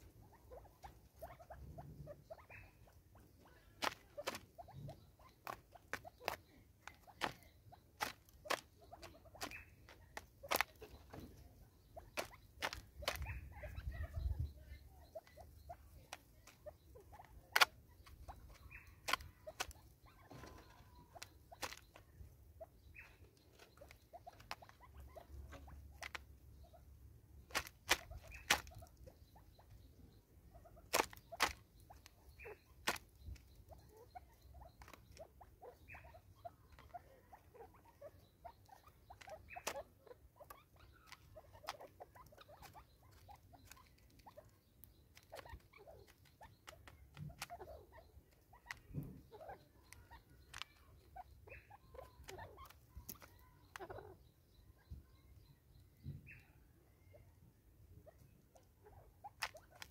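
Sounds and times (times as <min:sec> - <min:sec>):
birds pecking plastic feeder: 0:00.0 - 0:59.9.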